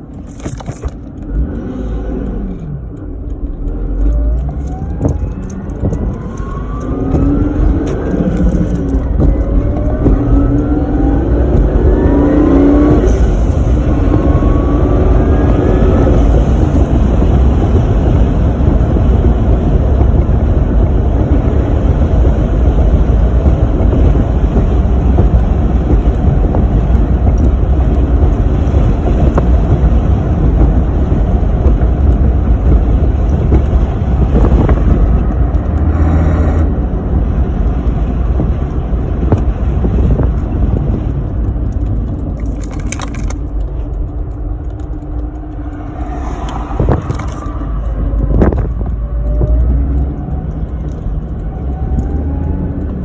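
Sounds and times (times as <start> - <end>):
car engine accelerating: 0.0 - 53.0
road and wind noise: 0.0 - 53.0
supercharger whine: 0.0 - 53.0.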